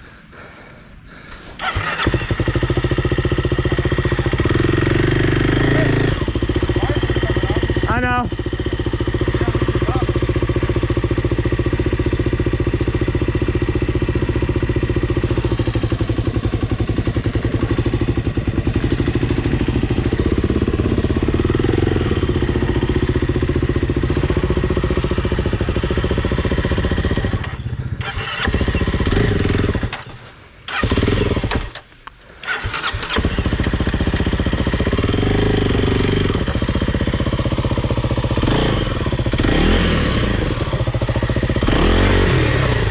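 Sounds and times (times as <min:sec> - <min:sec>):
dirt bike engine running: 0:00.4 - 0:42.9.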